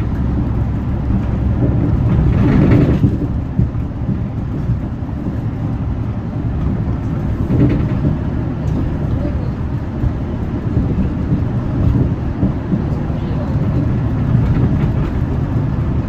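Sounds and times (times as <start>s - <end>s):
bus engine drone: 0.0s - 16.0s
road rumble: 0.0s - 16.0s.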